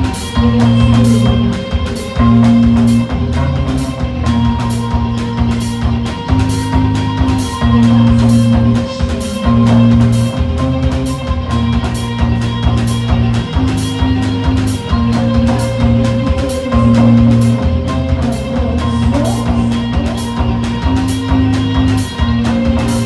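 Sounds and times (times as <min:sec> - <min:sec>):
drum kit with cymbals: 0:00.0 - 0:23.0
electric guitars playing low chords: 0:00.0 - 0:23.0.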